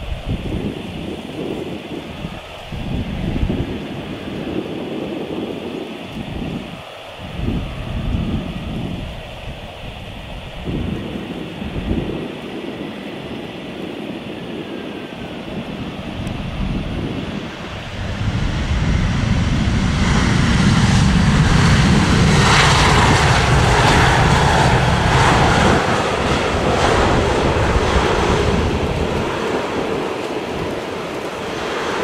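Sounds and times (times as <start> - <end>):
jet engines on landing rollout: 0.0 - 32.0.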